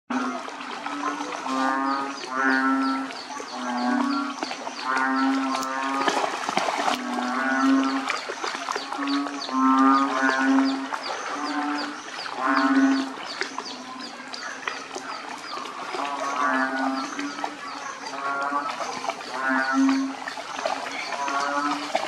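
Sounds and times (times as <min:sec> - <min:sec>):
frogs with low drawn-out calls: 0:00.1 - 0:22.0.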